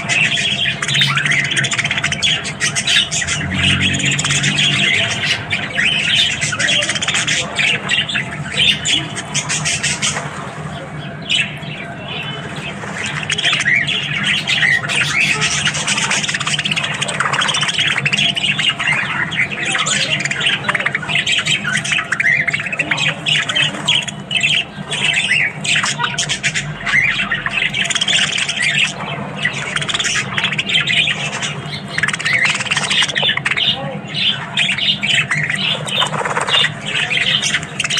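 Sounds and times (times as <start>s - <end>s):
budgerigars chattering and squawking: 0.0s - 37.9s.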